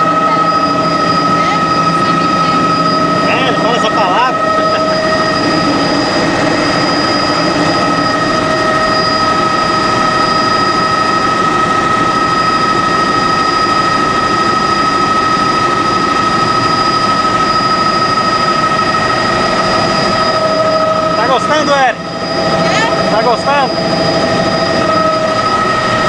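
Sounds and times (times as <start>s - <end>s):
helicopter engine and rotor noise: 0.0s - 26.0s
turbine whine: 0.0s - 26.0s.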